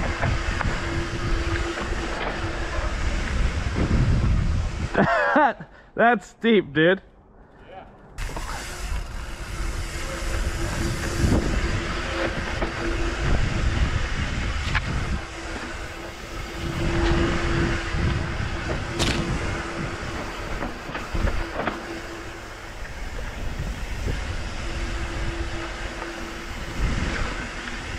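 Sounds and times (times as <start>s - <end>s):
steady whir: 0.0s - 5.0s, 7.9s - 27.9s
bike tyres rumbling and rattling: 0.0s - 5.1s, 7.3s - 27.9s.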